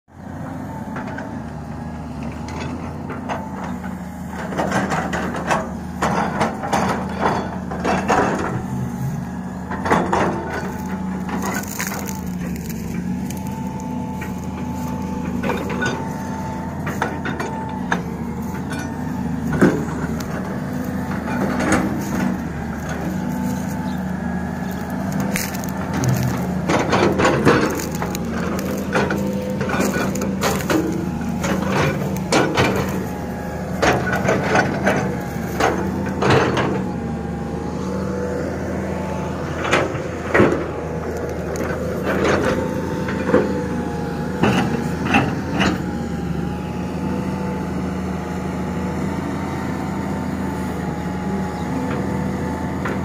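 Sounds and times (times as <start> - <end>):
diesel engine running: 0.1 - 53.0
excavator bucket crunching ground: 0.2 - 53.0.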